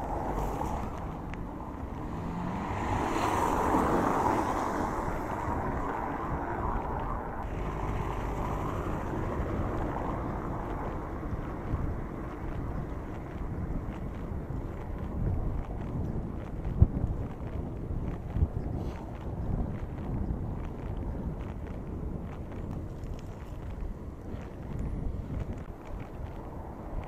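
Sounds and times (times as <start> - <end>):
tyres rumbling on paving stones: 0.0 - 27.0
wind on camera microphone: 0.0 - 27.0.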